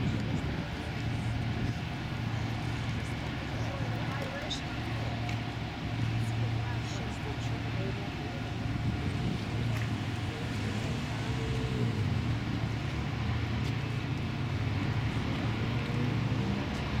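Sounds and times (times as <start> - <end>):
diesel boat engines droning: 0.0 - 17.0.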